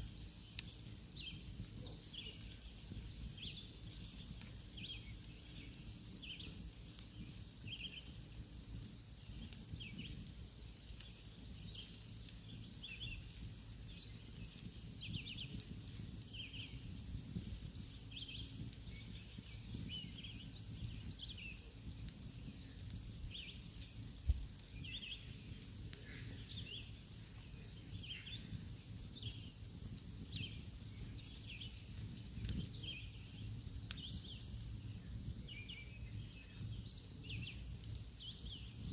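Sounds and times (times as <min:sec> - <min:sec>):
campfire burning and crackling: 0:00.0 - 0:38.9
small birds chirping: 0:00.0 - 0:38.9.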